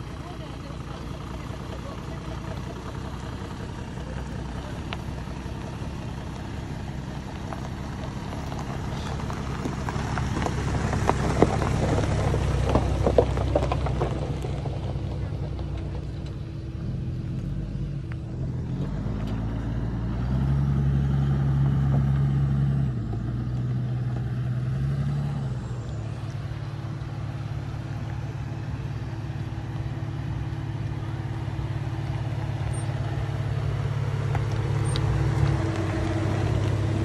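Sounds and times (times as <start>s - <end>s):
suv engine low rumble: 0.0s - 37.0s.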